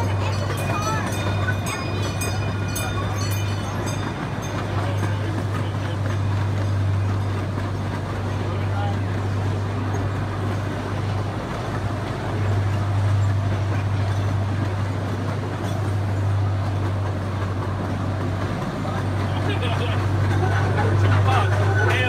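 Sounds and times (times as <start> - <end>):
small train running on track: 0.0 - 22.0.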